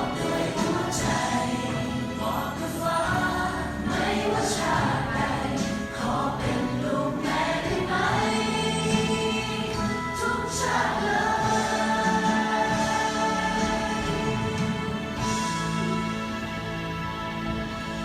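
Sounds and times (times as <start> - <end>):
choir singing: 0.0 - 18.0
musical accompaniment: 0.0 - 18.0.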